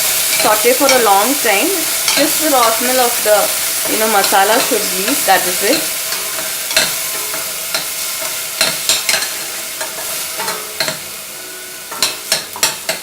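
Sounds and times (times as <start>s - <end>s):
spices sizzling in hot oil: 0.0s - 13.0s
spoon scraping and knocking pan: 0.0s - 13.0s.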